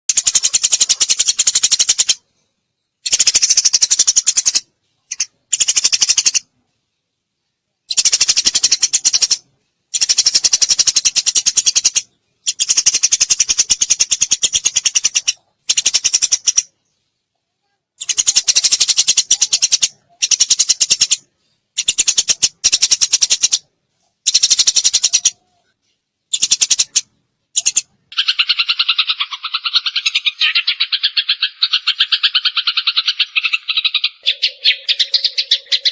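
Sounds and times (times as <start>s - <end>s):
sparrow chattering: 0.1s - 2.2s, 3.0s - 6.5s, 7.9s - 16.9s, 18.0s - 25.7s, 26.3s - 35.9s.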